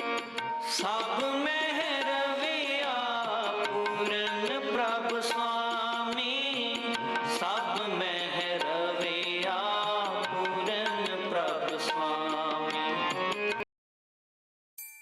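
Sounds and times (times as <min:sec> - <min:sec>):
background music with percussion: 0:00.0 - 0:13.6.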